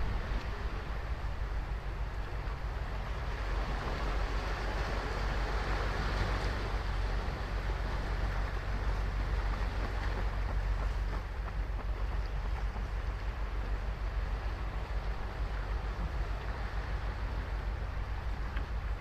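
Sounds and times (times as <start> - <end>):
deep rumble: 0.0 - 19.0
ocean surf breaking on beach: 0.0 - 19.0.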